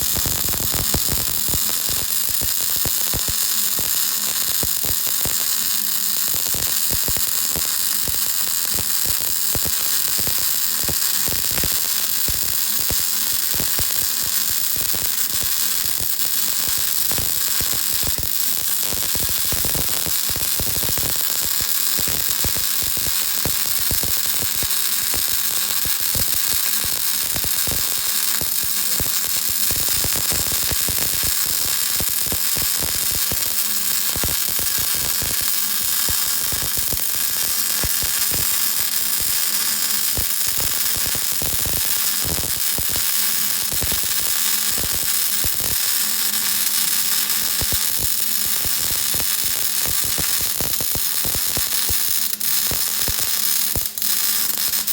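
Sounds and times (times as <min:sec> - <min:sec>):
welding arc crackling and hissing: 0:00.0 - 0:54.9.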